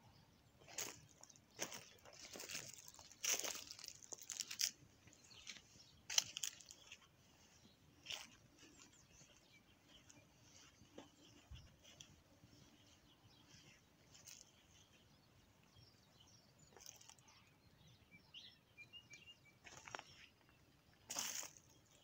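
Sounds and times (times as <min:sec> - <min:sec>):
faint birdsong chirps: 0:00.0 - 0:22.0.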